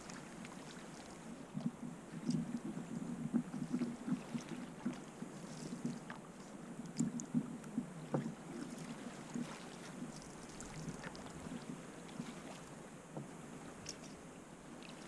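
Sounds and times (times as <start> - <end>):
faint ticks: 0.0 - 14.2
water lapping against canoe hull: 0.0 - 15.0.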